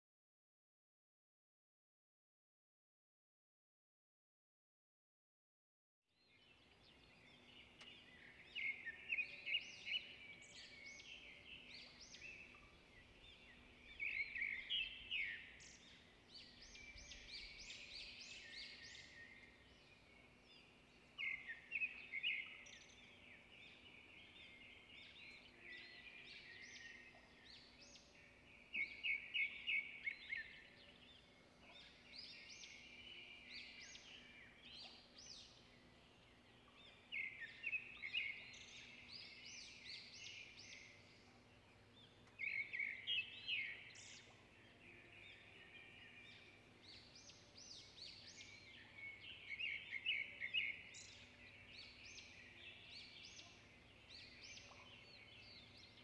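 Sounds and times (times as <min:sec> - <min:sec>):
small songbirds chirping: 0:06.2 - 0:56.0.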